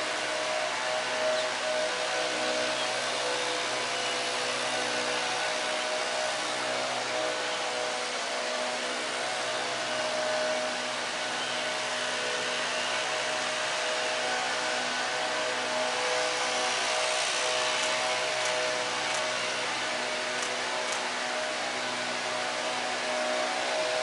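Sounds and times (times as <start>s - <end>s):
fan whooshing with low hum: 0.0s - 24.0s.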